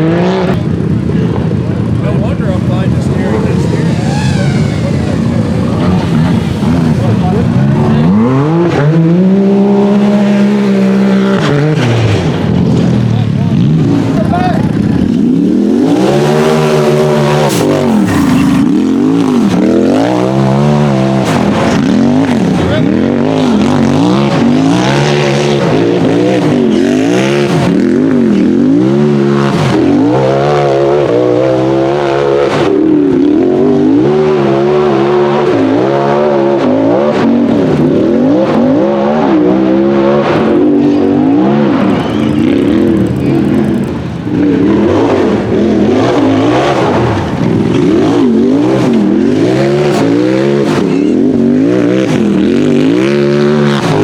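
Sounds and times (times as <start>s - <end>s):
buggy engine revving: 0.0s - 54.0s.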